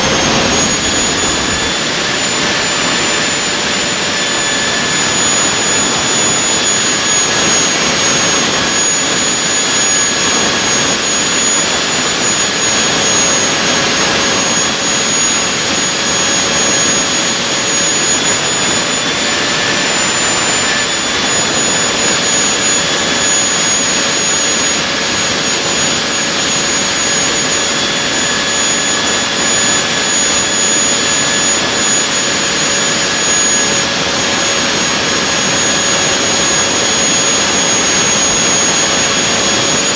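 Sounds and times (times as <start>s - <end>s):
model jet engine running: 0.0s - 39.9s.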